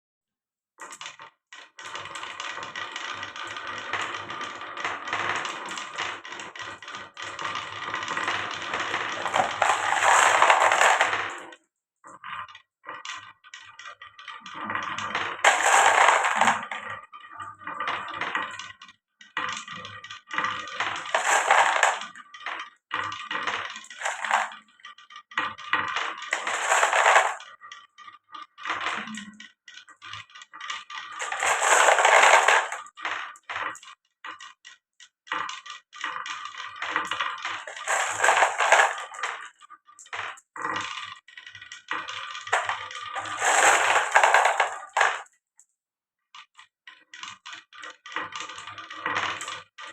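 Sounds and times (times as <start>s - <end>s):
marbles clattering down wooden run: 0.8s - 11.6s, 13.1s - 18.8s, 19.4s - 34.6s, 35.4s - 45.3s, 47.2s - 49.9s.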